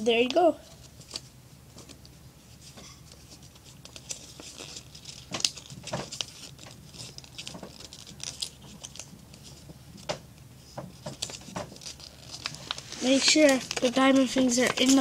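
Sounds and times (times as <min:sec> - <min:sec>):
paper rustling and crinkling: 0:00.7 - 0:15.0.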